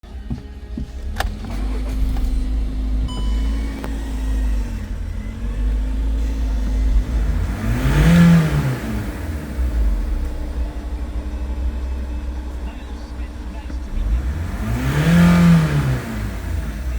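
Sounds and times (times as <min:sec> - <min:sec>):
diesel engine idling and revving: 0:00.0 - 0:16.9.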